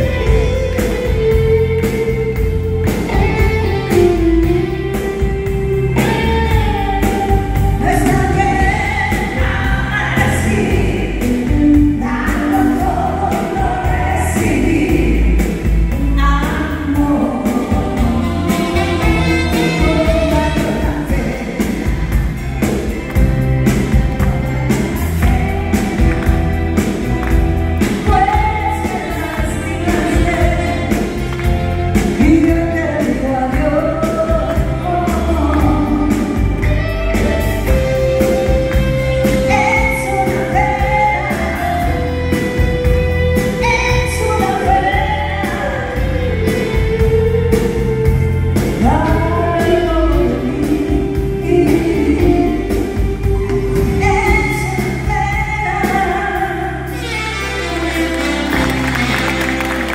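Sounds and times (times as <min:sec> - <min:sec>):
saxophone: 0:00.0 - 0:15.2, 0:16.0 - 0:59.9
woman singing a ballad: 0:00.0 - 0:22.7, 0:23.6 - 0:57.8
bass guitar: 0:00.0 - 0:59.9
drums: 0:00.0 - 0:59.9
electric guitar: 0:00.0 - 0:59.9
keyboard: 0:00.0 - 0:59.9.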